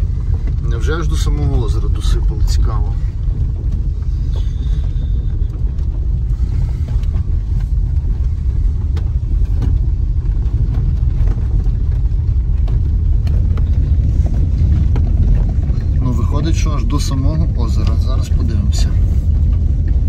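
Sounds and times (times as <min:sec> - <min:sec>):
car driving over gravel road: 0:00.0 - 0:20.0.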